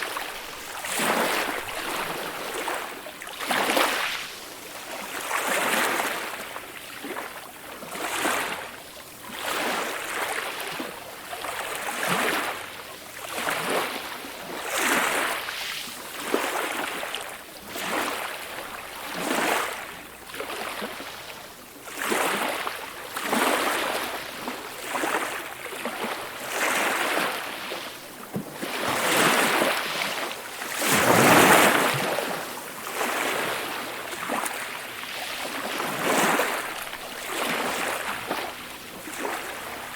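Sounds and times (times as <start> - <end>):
small ocean waves washing: 0.0 - 39.9.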